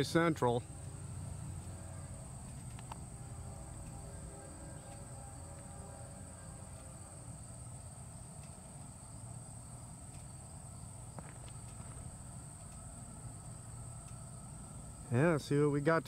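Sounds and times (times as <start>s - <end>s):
insects singing: 0.0s - 16.0s.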